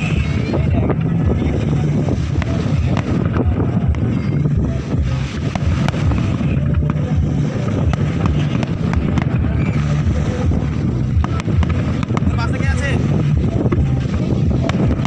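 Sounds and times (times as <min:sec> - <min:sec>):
faint scattered crackles: 0:00.0 - 0:15.0
wind rumble on microphone: 0:00.0 - 0:15.0.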